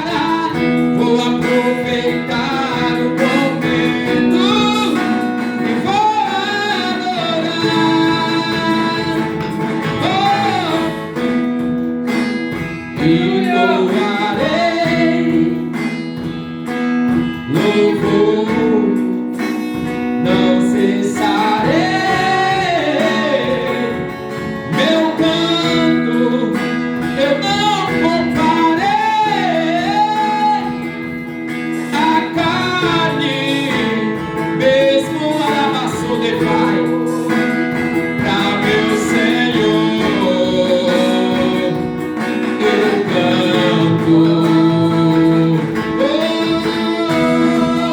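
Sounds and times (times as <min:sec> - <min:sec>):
person singing: 0:00.0 - 0:47.9
strummed acoustic guitar: 0:00.0 - 0:47.9.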